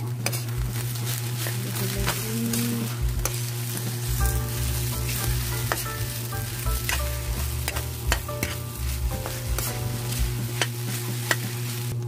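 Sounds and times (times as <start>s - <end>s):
low hum: 0.0s - 12.0s
rice sizzling in oil: 0.0s - 12.0s
metal spatula scraping a wok: 0.1s - 12.0s.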